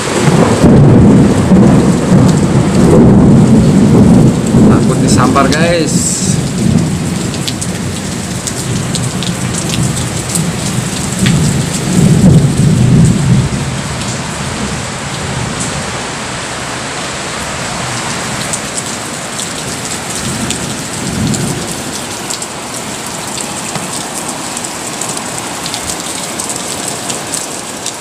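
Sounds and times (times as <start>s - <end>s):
thunder rumbling: 0.0s - 27.9s
heavy rain and hail: 0.0s - 28.0s.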